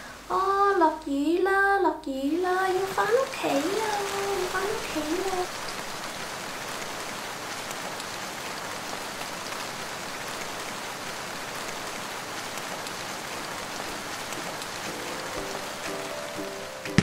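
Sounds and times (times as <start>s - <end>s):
rain falling on wet surface: 2.3s - 17.0s.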